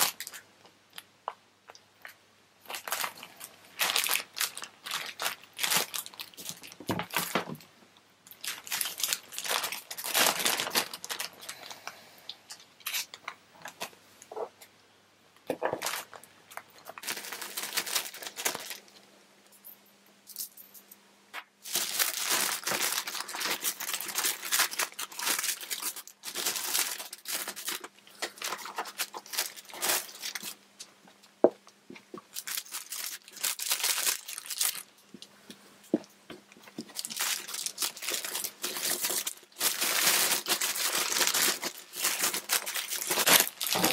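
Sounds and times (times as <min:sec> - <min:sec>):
plastic film crinkling: 0:00.0 - 0:01.1, 0:02.6 - 0:11.9, 0:12.5 - 0:14.5, 0:15.5 - 0:19.0, 0:21.6 - 0:30.6, 0:31.9 - 0:35.1, 0:36.0 - 0:43.9
faint steady hum: 0:00.0 - 0:43.9.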